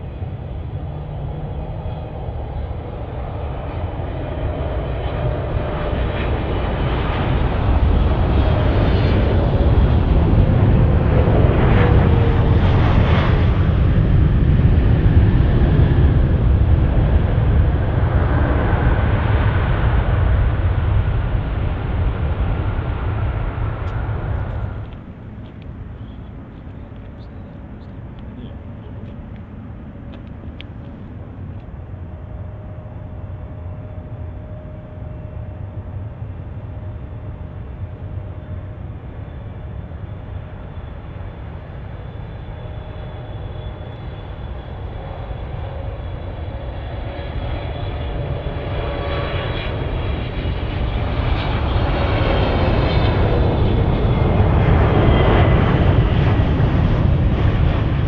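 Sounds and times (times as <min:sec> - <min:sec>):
jet engine whine sliding down: 0:00.0 - 0:58.0
jet engines rumbling: 0:00.0 - 0:58.0.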